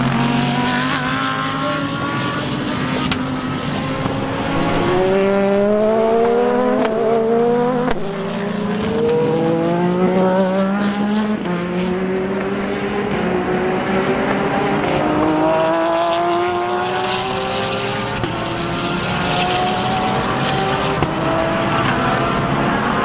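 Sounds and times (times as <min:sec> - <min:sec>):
race car engine accelerating: 0:00.0 - 0:23.0.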